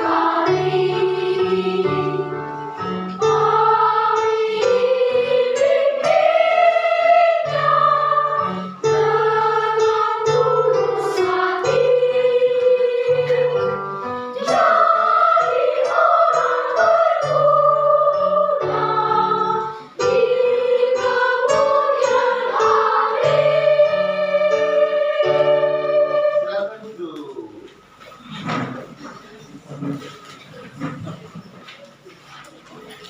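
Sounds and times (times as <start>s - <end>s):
children's choir singing: 0.0s - 26.7s.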